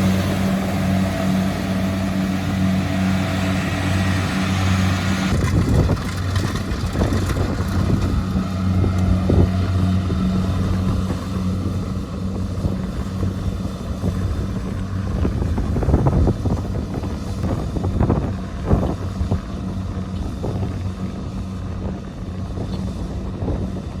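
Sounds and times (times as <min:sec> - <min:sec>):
diesel engine running: 0:00.0 - 0:24.0
wind buffeting microphone: 0:00.0 - 0:24.0.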